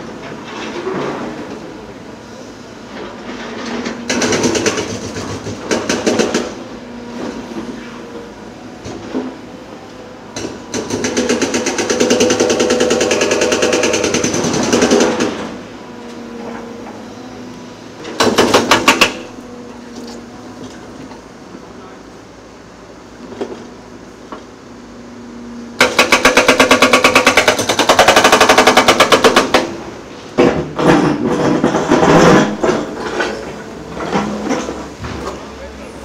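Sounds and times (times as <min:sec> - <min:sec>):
diesel machinery running: 0:00.0 - 0:36.0.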